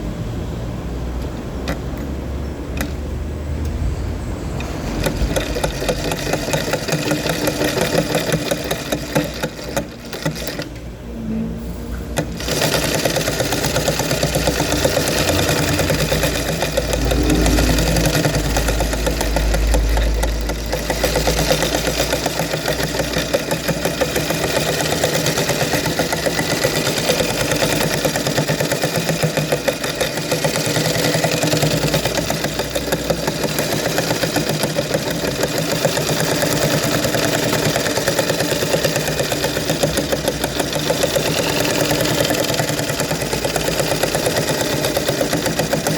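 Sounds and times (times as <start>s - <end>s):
sewing machine running: 4.5s - 10.9s, 11.6s - 45.9s.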